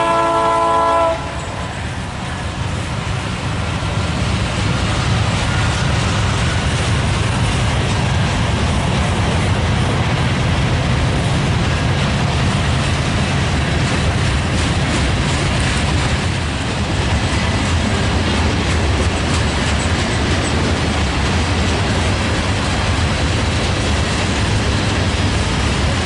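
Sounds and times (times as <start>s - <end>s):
freight train rumbling on rails: 0.0s - 26.0s.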